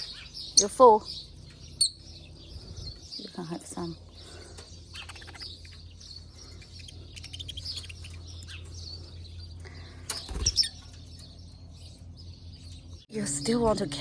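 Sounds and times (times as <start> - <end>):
birds chirping and twittering: 0.0 - 14.0
steady low hum: 0.0 - 14.0.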